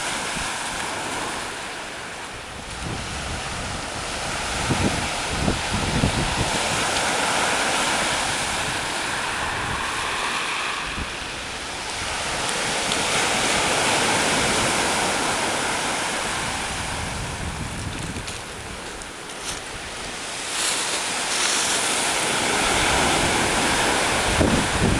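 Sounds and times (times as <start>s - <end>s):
sea waves breaking: 0.0s - 24.9s
wind buffeting the microphone: 0.0s - 24.9s.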